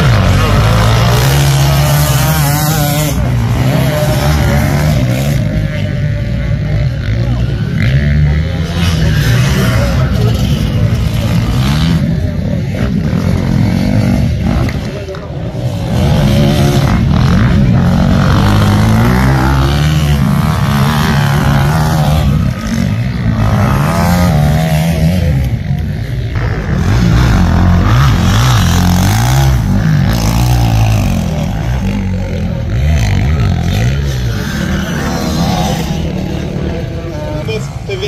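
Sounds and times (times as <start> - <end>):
racing motorcycles revving: 0.0 - 38.0.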